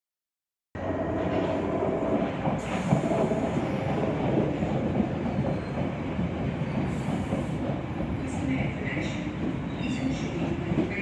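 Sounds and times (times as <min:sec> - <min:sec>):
train wheels rumbling on rail: 0:00.8 - 0:11.0.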